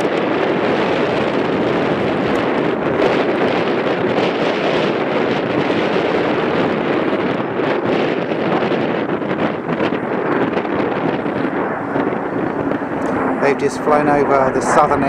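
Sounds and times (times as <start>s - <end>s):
fighter jet engines roaring: 0.0s - 15.0s
wind on microphone: 0.0s - 15.0s.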